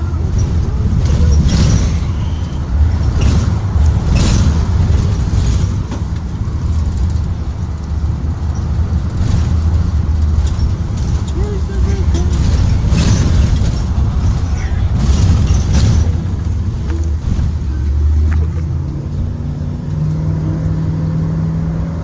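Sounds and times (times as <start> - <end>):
bus engine and road rumble: 0.0 - 22.0
bus rattles: 0.0 - 22.0.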